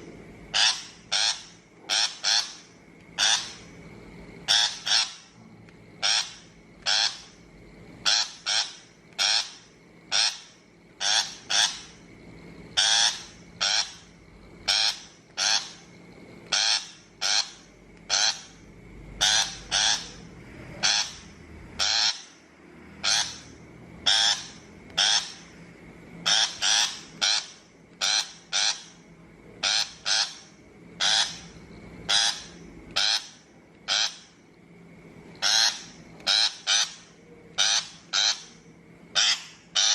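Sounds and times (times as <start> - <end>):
shrike harsh calls: 0.5 - 3.8, 4.4 - 5.4, 6.0 - 7.4, 8.0 - 12.1, 12.7 - 15.9, 16.5 - 25.6, 26.2 - 29.0, 29.6 - 34.4, 35.4 - 39.9.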